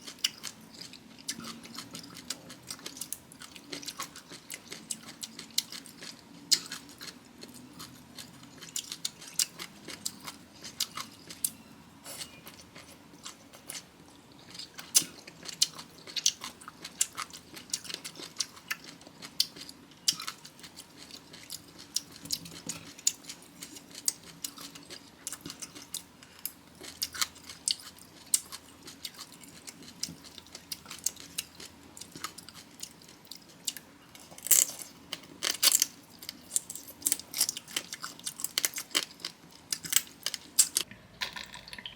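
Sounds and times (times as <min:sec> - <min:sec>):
crunchy food chewing: 0:00.0 - 0:41.8.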